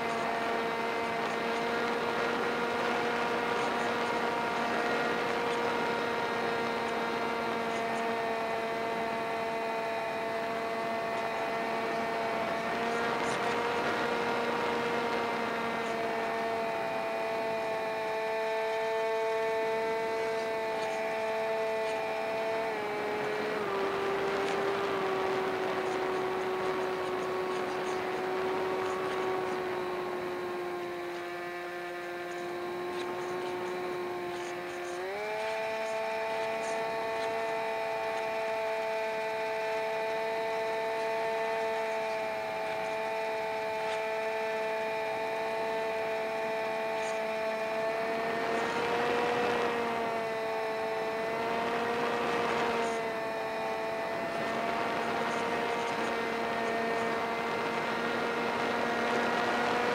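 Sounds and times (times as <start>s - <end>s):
electric motor propeller whine: 0.0s - 59.9s.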